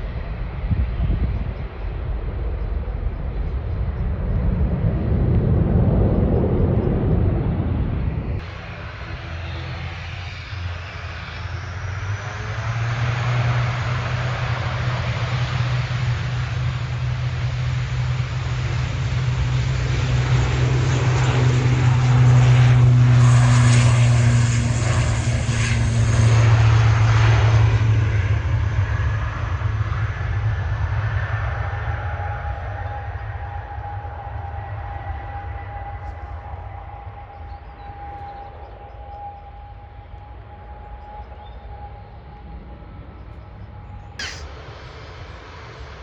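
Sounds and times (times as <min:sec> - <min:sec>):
airliner engines passing: 0:00.0 - 0:46.0.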